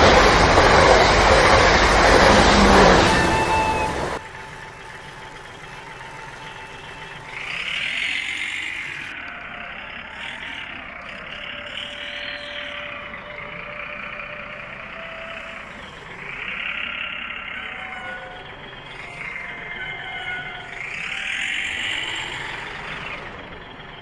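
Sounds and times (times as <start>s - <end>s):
toy tractor motor whining: 1.9s - 24.0s.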